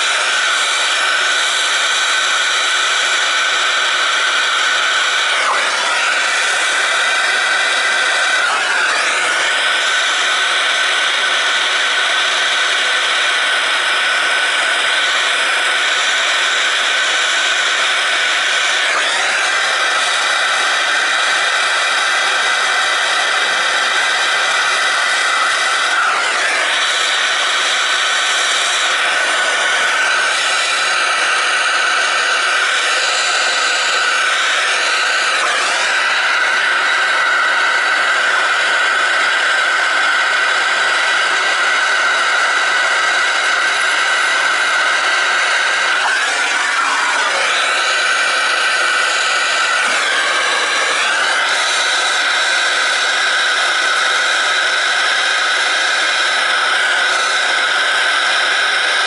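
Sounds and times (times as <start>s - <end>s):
gas torch hissing: 0.0s - 39.8s, 40.4s - 58.8s.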